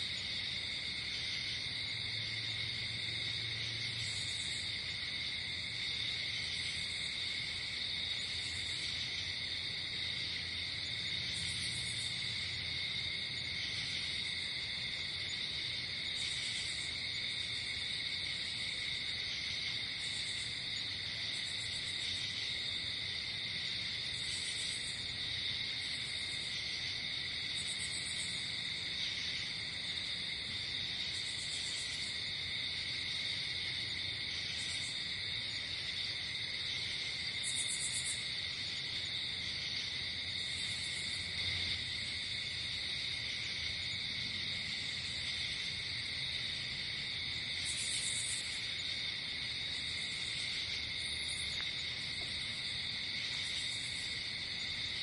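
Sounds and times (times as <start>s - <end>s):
crickets chirping shrilly: 0.0s - 55.0s.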